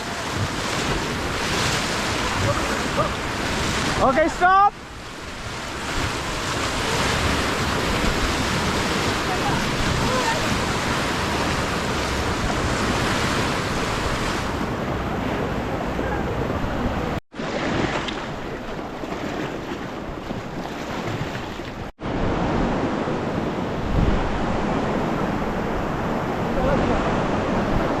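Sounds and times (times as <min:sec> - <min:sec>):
river water rushing: 0:00.0 - 0:28.0
wind on microphone: 0:04.9 - 0:28.0.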